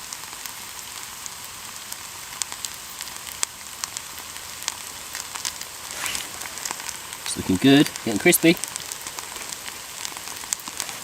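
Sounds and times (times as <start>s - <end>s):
food sizzling in a pan: 0.0s - 11.0s
sharp pops and crackles: 0.0s - 11.0s.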